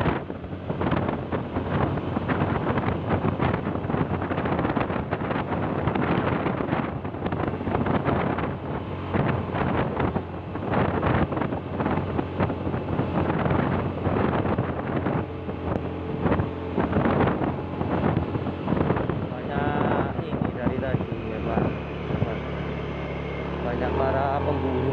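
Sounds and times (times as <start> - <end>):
vehicle engine drone: 0.0 - 24.9
wind buffeting microphone: 0.0 - 24.9.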